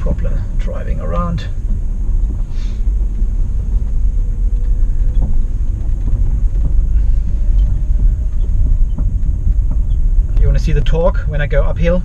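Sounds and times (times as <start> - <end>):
faint knocks and rattles: 0.0 - 12.0
road and tyre rumble: 0.0 - 12.0.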